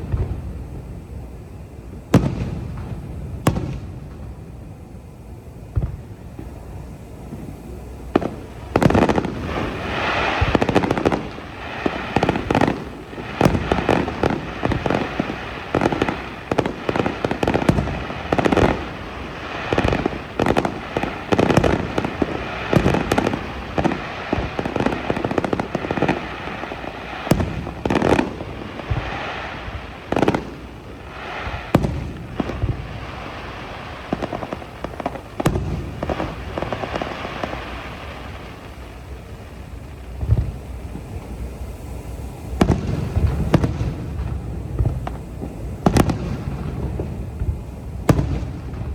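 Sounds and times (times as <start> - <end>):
fireworks bangs and booms: 0.0 - 48.9
fireworks crackling: 0.0 - 48.9.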